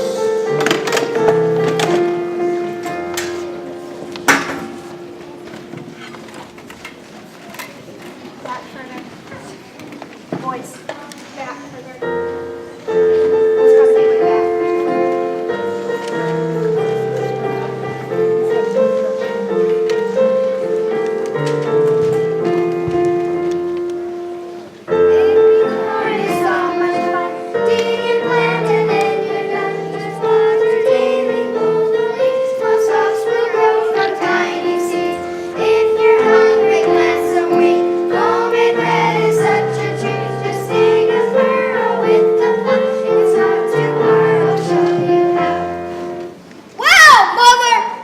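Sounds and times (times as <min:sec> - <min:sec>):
piano accompaniment: 0:00.0 - 0:08.0, 0:11.6 - 0:46.8
children's choir singing: 0:00.0 - 0:08.1, 0:12.0 - 0:46.4.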